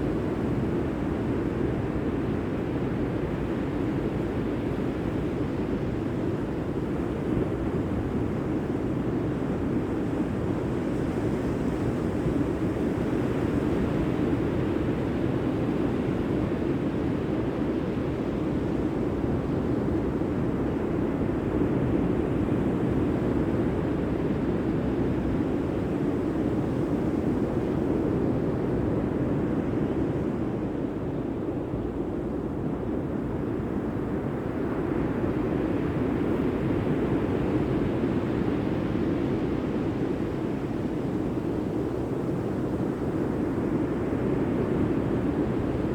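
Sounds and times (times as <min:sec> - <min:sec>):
wind: 0:00.0 - 0:45.9.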